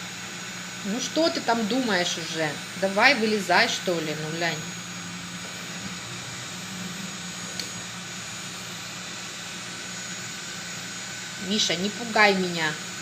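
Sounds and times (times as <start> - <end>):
robot vacuum cleaner running: 0.0 - 13.0.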